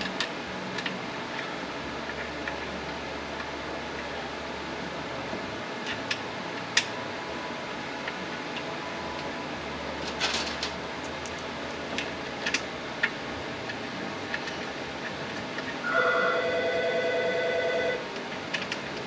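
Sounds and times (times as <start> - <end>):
shop hum: 0.0 - 19.0.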